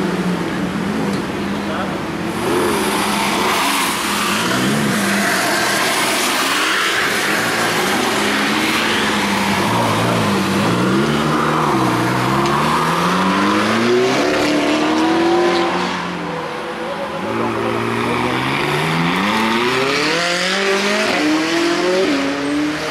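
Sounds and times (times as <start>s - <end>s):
sports car engine revving: 2.2s - 16.2s, 17.3s - 22.9s.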